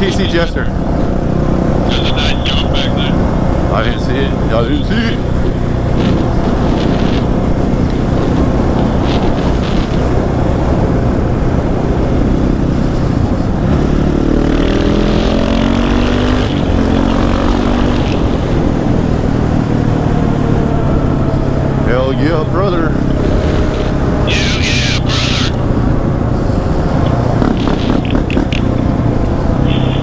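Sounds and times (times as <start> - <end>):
dirt bike engine revving: 0.0 - 30.0
wind noise: 0.0 - 30.0.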